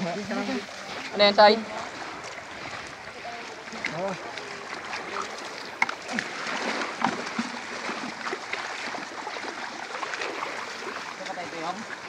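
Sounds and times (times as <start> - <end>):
seawater splashing under feet: 0.0 - 12.0.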